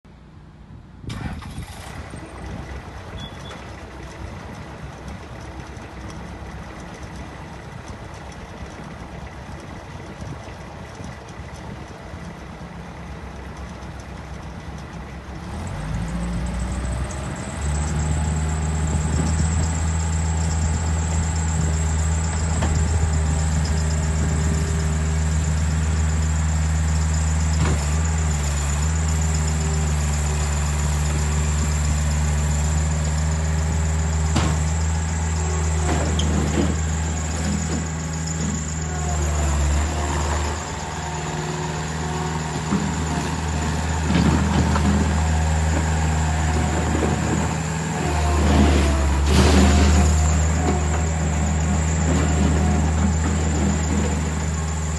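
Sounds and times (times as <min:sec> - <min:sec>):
skid steer diesel engine running: 0:00.1 - 0:54.9.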